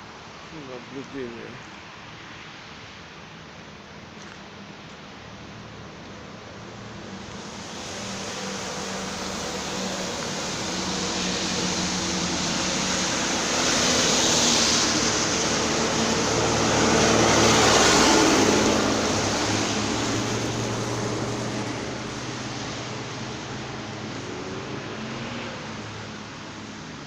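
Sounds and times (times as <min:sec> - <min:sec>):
vehicles passing close by: 0:00.0 - 0:27.0.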